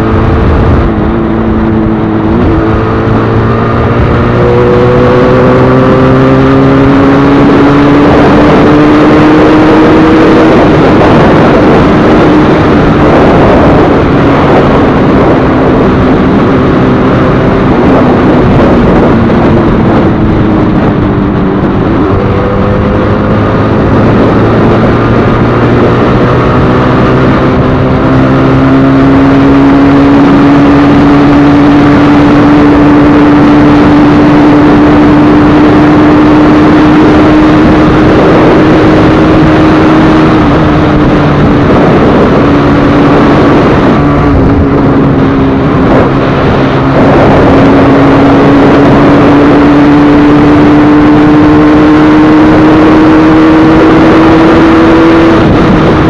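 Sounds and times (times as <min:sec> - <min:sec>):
motorcycle engine revving: 0:00.0 - 0:56.0
wind on microphone: 0:00.0 - 0:56.0.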